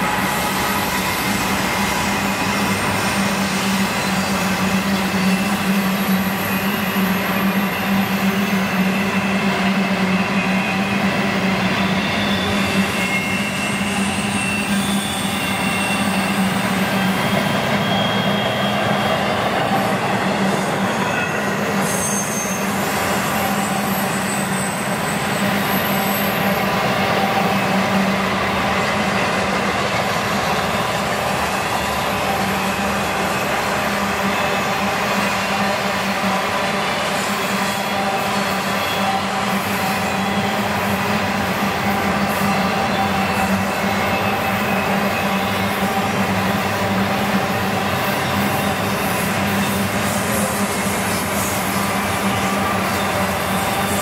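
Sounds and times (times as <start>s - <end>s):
freight train wheels rumbling: 0.0s - 54.0s
high wheel squeals: 0.0s - 54.0s.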